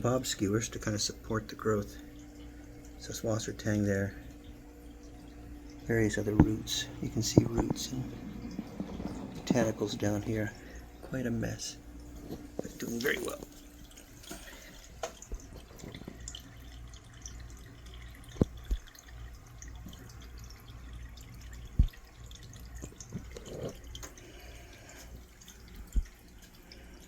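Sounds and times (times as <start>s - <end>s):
steady low hum: 0.0s - 27.0s
water dripping and trickling: 0.0s - 27.0s.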